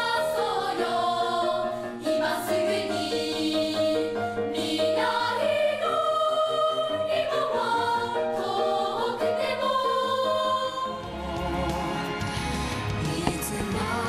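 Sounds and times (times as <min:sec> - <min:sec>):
children's choir singing: 0:00.0 - 0:12.2, 0:12.9 - 0:14.0.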